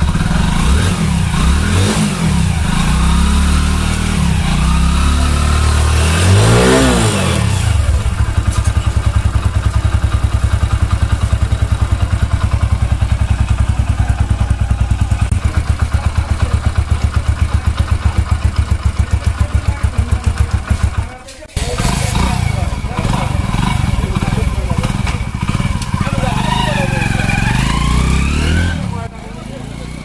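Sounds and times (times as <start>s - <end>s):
engine revving: 0.0s - 30.0s
motorcycle engine idling: 0.0s - 30.0s.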